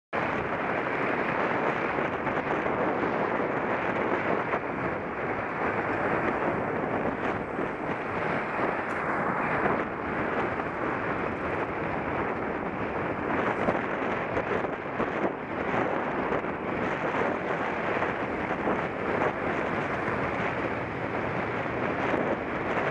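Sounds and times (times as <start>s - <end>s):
wind buffeting microphone: 0.1s - 22.9s.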